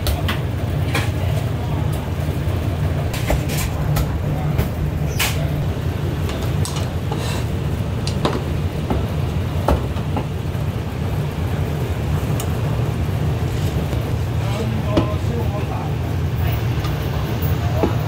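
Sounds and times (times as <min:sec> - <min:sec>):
low rumble of shop: 0:00.0 - 0:18.0.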